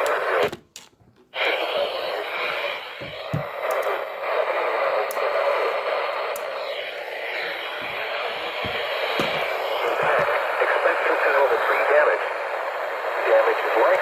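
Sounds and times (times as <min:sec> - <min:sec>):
radio static hiss: 0:00.0 - 0:00.5, 0:01.3 - 0:14.0.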